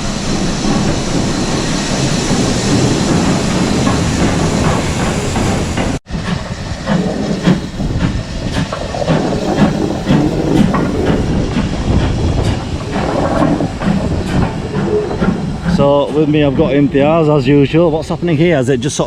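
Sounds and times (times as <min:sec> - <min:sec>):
steam locomotive chugging beat: 0:00.0 - 0:17.2
steam hissing: 0:00.0 - 0:18.3.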